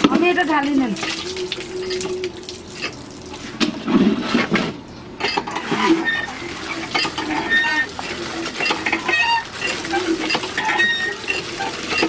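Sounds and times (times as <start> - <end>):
water sloshing in a bucket: 0.0 - 4.6, 5.3 - 12.0.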